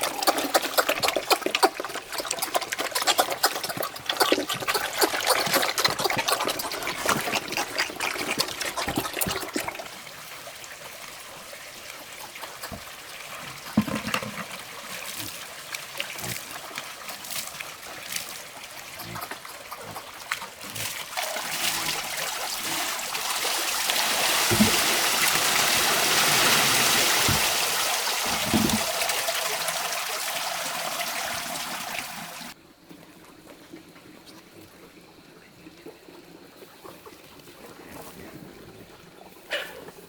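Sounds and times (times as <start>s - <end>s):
water running and trickling: 0.0s - 32.6s.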